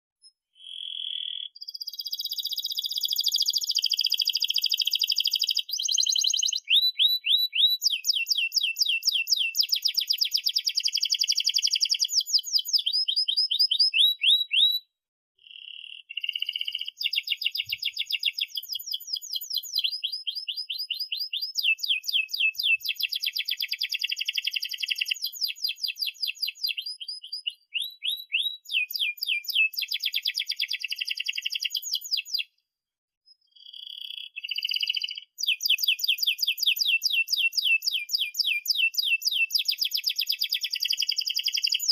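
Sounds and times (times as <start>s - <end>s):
canary singing trills: 0.2s - 32.5s, 33.3s - 41.9s.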